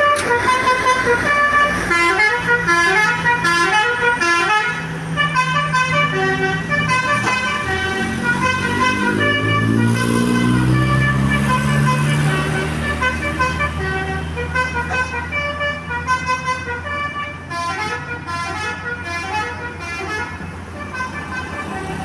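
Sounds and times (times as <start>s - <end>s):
multi-tone bus horn tune: 0.0s - 22.0s.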